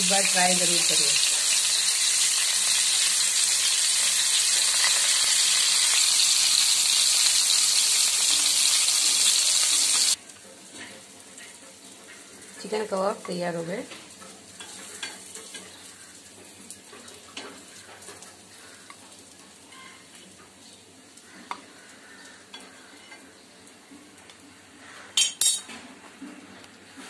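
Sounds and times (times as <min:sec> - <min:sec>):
food sizzling in oil: 0:00.0 - 0:23.9.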